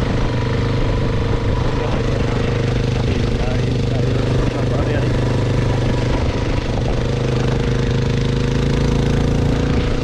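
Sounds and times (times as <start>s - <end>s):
vehicle engine running steadily: 0.0s - 10.0s.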